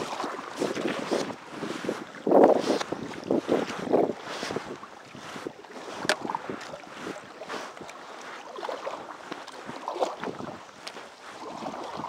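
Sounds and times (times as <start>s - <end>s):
wind buffeting microphone: 0.0s - 7.9s, 9.2s - 12.0s
paddle splashing in water: 0.0s - 12.0s.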